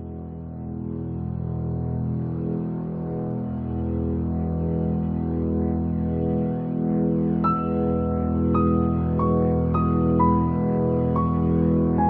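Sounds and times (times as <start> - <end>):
sustained low music tones: 0.0 - 12.0.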